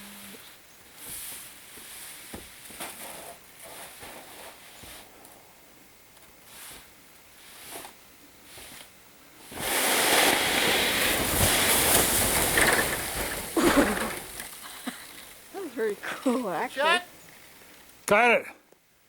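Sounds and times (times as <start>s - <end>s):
snow sliding off roof: 0.2s - 17.0s.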